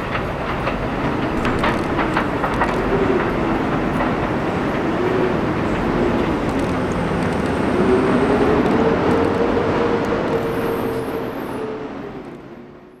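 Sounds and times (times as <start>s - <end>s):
train rumble on elevated tracks: 0.0s - 13.0s
train whine: 0.0s - 13.0s.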